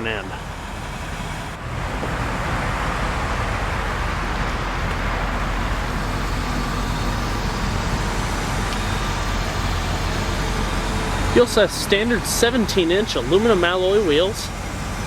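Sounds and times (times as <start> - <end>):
road traffic humming: 0.0 - 15.0.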